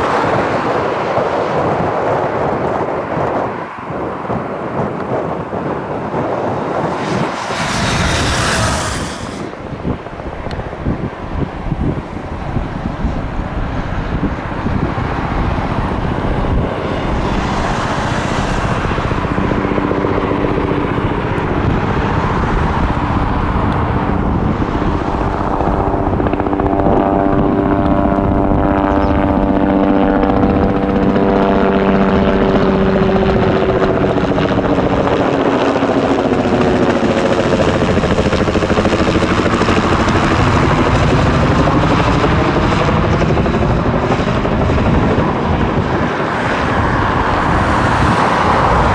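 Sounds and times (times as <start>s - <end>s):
helicopter flying close by: 0.0s - 48.9s.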